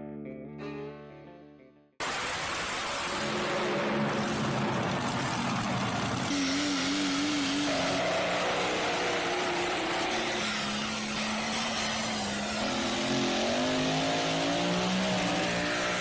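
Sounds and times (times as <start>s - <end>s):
diesel truck engine under load: 3.1s - 16.0s.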